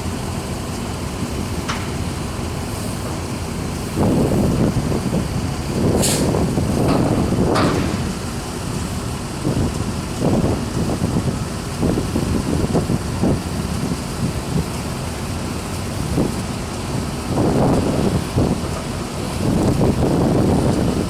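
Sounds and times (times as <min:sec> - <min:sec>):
steady low rumble: 0:00.0 - 0:21.0
wind buffeting microphone: 0:01.9 - 0:21.0.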